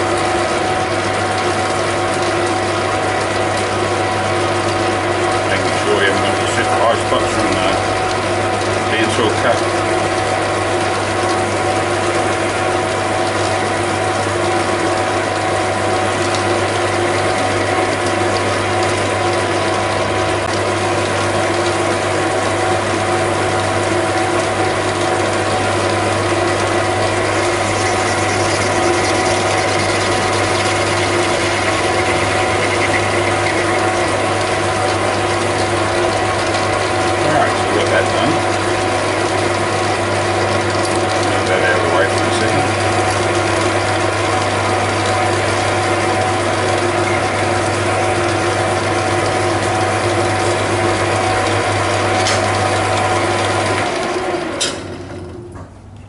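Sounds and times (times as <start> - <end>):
lathe gear whine: 0.0 - 55.6
lathe mechanical rattle: 0.0 - 56.0.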